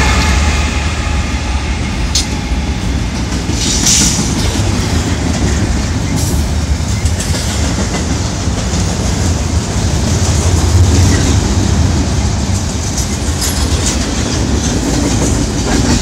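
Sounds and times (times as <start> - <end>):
freight train wheels rumbling: 0.0 - 16.0
wheels clacking over rail joints: 3.1 - 16.0.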